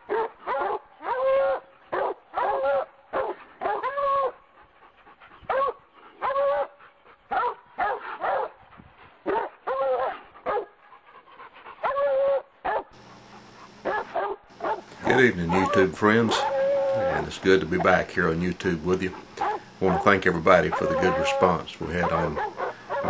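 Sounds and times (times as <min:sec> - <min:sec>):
dog barking and yelping: 0:00.1 - 0:04.4, 0:05.4 - 0:08.6, 0:09.3 - 0:10.8, 0:11.8 - 0:18.1, 0:18.8 - 0:23.0.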